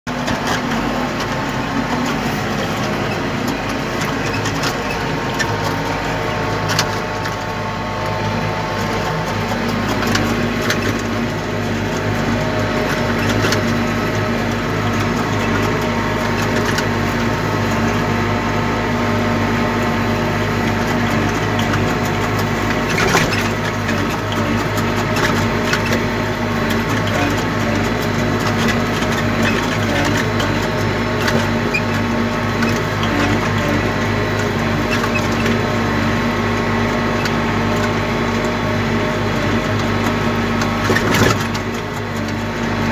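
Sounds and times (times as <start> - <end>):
tractor engine under load: 0.0 - 42.9.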